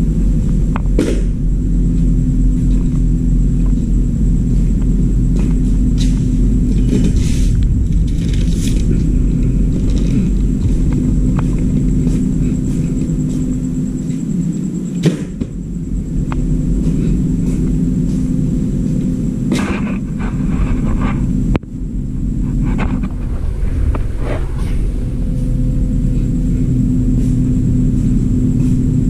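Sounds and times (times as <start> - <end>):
faint high whine: 0.0 - 29.0
low mechanical hum: 0.0 - 29.0.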